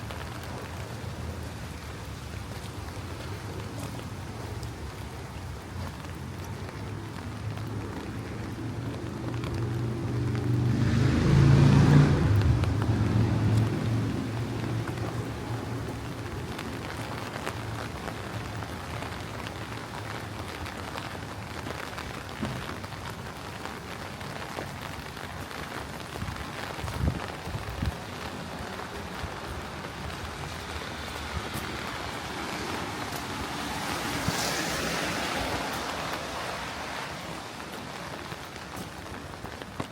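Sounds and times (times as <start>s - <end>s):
raindrops ticking close by: 0.0s - 39.9s
steady rain: 0.0s - 39.9s.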